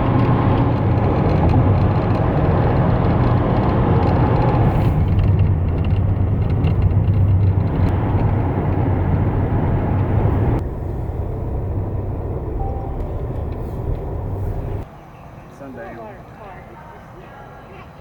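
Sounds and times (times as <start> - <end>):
airplane cabin engine rumble: 0.0 - 14.9.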